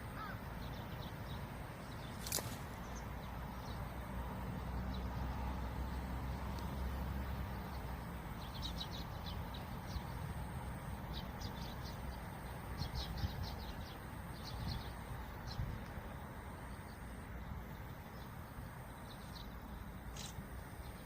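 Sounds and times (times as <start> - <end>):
low wind rumble: 0.0 - 21.0
songbird chirping: 0.0 - 21.0.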